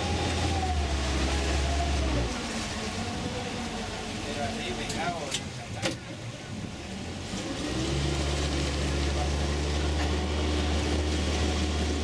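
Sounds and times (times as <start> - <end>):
outboard motor running: 0.0 - 5.6, 6.3 - 12.0.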